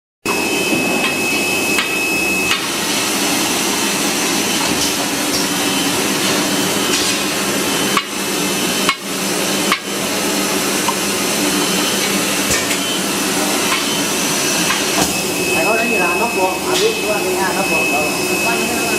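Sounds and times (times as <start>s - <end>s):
bottling machine hum and clatter: 0.3s - 18.9s.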